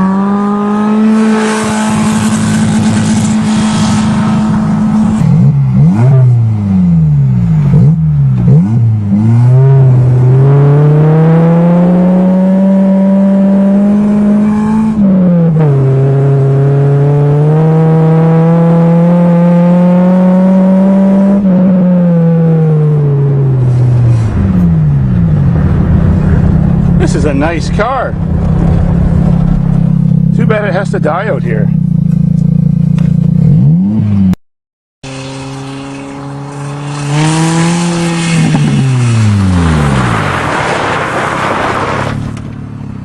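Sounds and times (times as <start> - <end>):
car engine revving: 0.0 - 34.4, 35.0 - 43.0.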